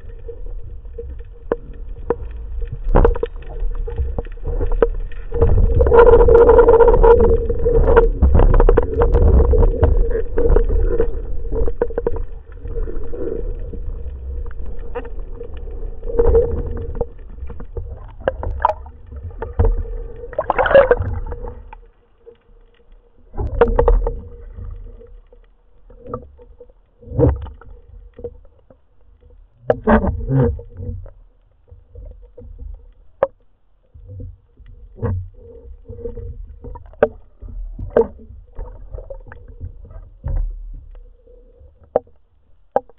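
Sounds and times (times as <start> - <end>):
underwater water rush: 0.0 - 42.9.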